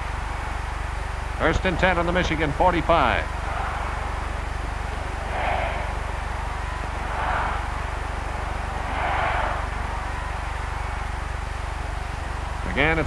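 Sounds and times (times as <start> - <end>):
film soundtrack hum and hiss: 0.0 - 13.0.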